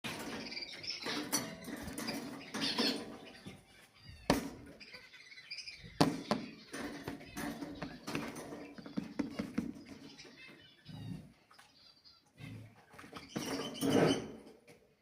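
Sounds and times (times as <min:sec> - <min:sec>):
budgerigars chirping and warbling: 0:00.1 - 0:14.5.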